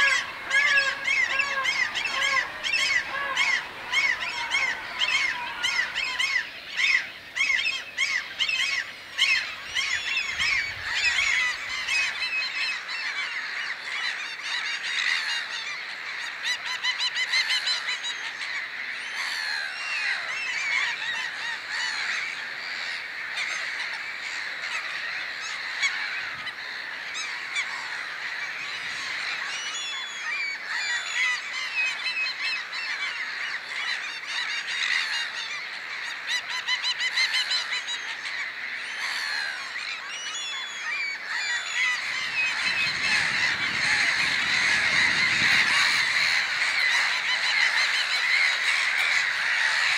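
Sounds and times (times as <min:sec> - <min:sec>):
flock of birds calling: 0:00.0 - 0:49.9.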